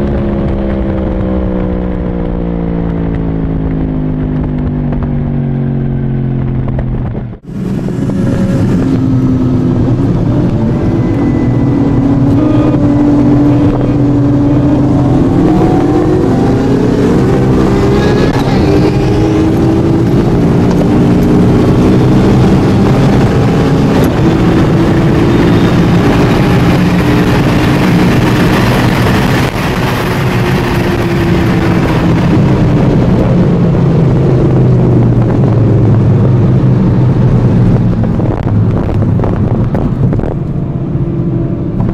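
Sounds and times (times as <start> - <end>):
car engine pulling hard: 0.0 - 41.9
wind and road rush: 0.0 - 41.9.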